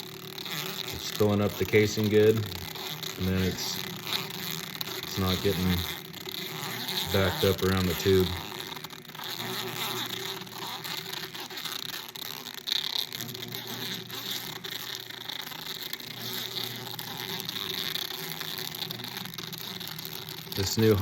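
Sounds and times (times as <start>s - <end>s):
sausage stuffer motor humming: 0.0s - 21.0s.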